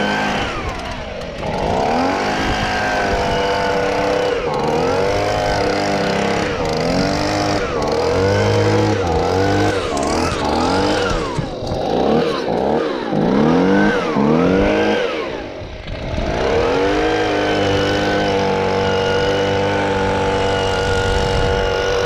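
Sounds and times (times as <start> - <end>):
leaf blower engine revving: 0.0 - 22.0.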